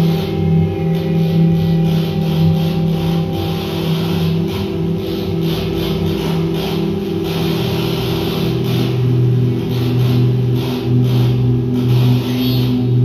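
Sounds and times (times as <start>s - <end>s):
low synthesizer drone: 0.0s - 13.0s.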